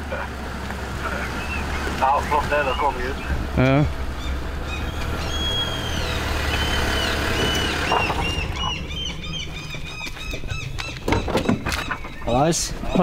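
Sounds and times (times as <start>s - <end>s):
birds chirping: 0.0s - 13.0s
car engine idling: 0.0s - 13.0s.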